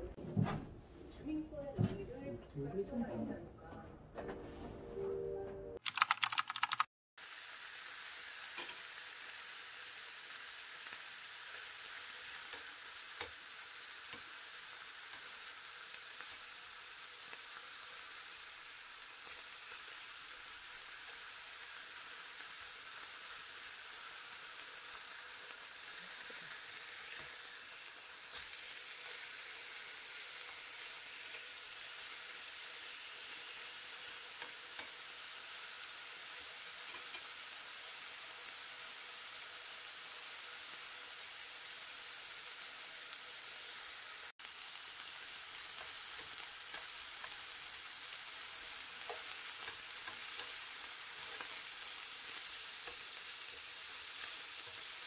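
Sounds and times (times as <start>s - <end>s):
beef sizzling in a frying pan: 7.2s - 55.0s.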